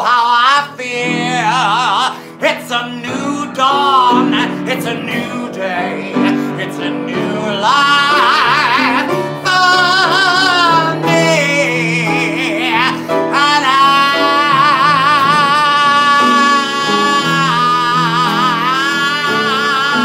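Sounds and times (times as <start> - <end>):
acoustic guitar: 0.0 - 20.0
person singing with vibrato: 0.0 - 20.0
upright piano: 0.0 - 20.0.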